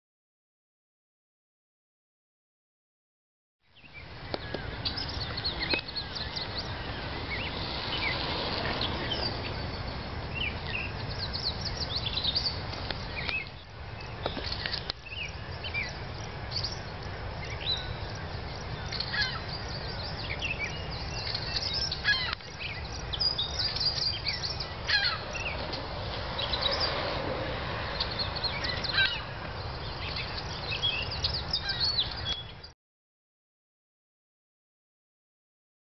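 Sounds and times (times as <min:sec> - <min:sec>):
small birds chirping: 0:03.7 - 0:32.8.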